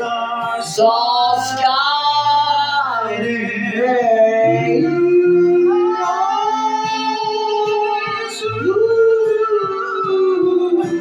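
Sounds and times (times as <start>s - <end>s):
person singing: 0.0s - 11.0s
plucked guitar: 0.0s - 11.0s.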